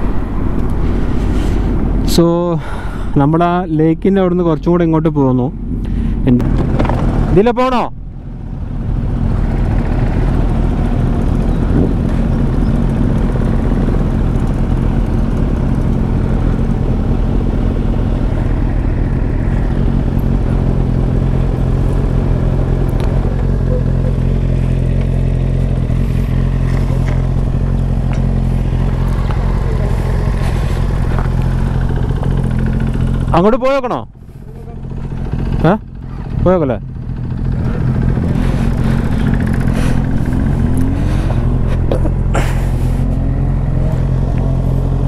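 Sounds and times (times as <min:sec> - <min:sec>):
motorcycle engines idling: 0:00.0 - 0:45.0.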